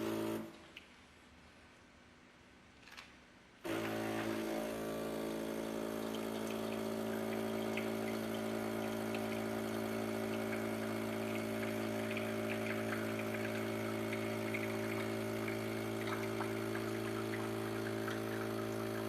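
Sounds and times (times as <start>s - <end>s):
espresso machine pump humming: 0.0s - 0.5s, 3.7s - 19.0s
liquid pouring: 3.7s - 19.0s.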